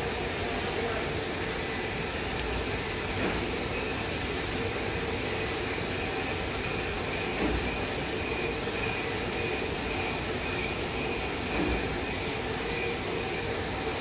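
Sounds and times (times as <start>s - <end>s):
faint machine whine: 0.0s - 14.0s
machine mechanical drone: 0.0s - 14.0s.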